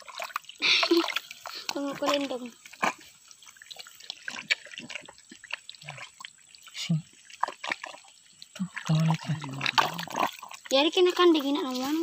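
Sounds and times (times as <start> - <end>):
muddy water dripping and splashing: 0.0 - 12.0.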